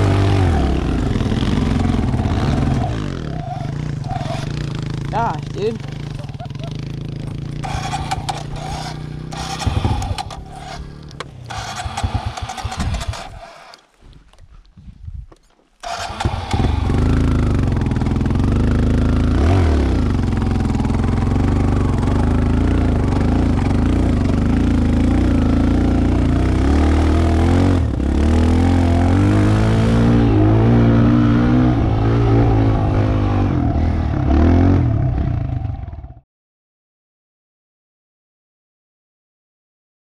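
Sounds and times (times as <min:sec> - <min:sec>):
dirt bike engine revving: 0:00.0 - 0:13.8, 0:15.8 - 0:36.2.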